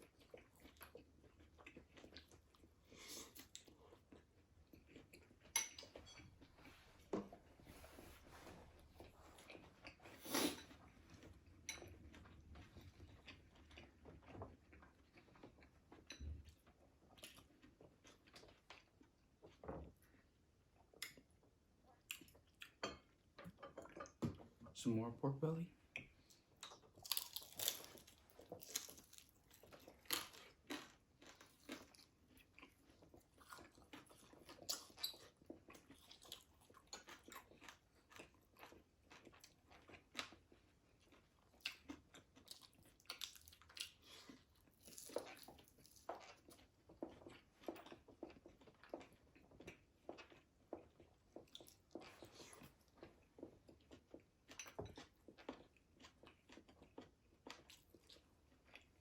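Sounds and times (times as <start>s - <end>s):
biting and chewing fried food: 0.0s - 6.6s, 8.8s - 24.6s, 25.7s - 59.0s.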